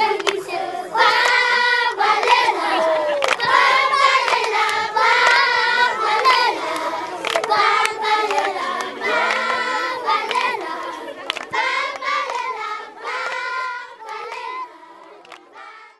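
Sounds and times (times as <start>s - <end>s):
hand claps: 0.0s - 0.5s, 1.1s - 1.5s, 2.2s - 5.5s, 6.2s - 9.6s, 10.2s - 15.5s
children singing together: 0.0s - 15.9s.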